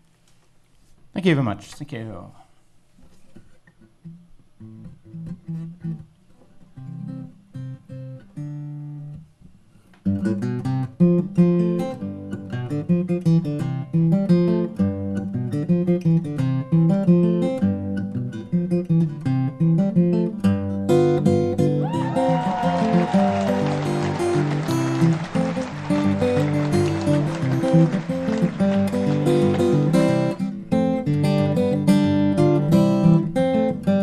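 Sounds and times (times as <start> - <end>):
acoustic guitar: 3.0 - 34.0.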